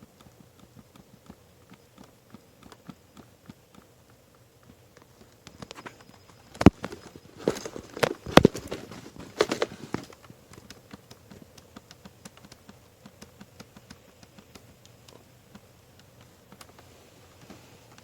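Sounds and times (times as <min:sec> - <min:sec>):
sharp knocks and plastic clatter: 0:00.0 - 0:18.0.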